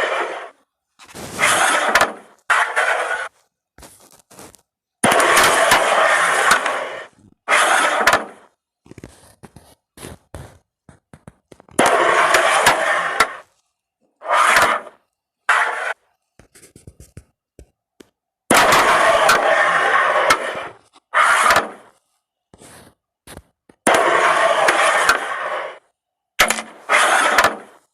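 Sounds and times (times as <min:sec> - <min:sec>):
carrom pieces sliding on board: 0:00.0 - 0:13.6, 0:14.2 - 0:17.4, 0:18.7 - 0:25.8, 0:26.4 - 0:27.9.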